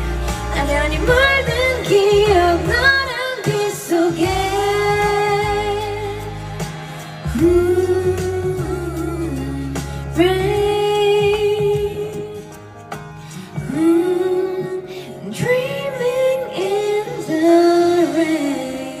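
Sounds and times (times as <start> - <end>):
backing track music: 0.0 - 19.0
woman singing into microphone: 0.0 - 19.0.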